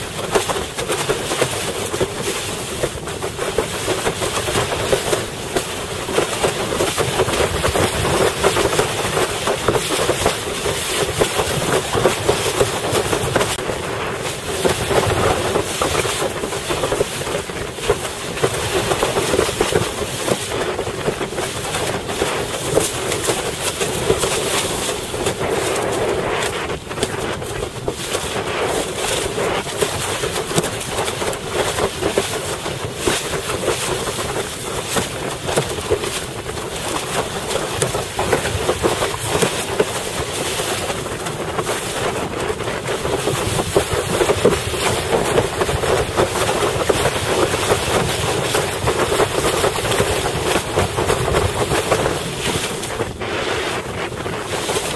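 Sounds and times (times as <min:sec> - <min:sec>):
board hull slapping on water: 0:00.0 - 0:54.9
wind rushing over microphone: 0:00.0 - 0:54.9.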